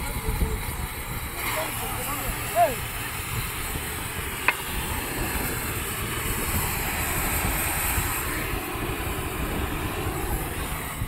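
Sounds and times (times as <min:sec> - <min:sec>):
rail welding machine rushing: 0:00.0 - 0:11.0.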